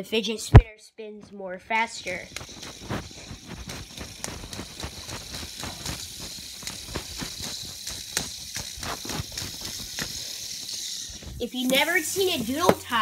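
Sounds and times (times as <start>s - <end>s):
fidget spinner spinning: 1.6s - 13.0s.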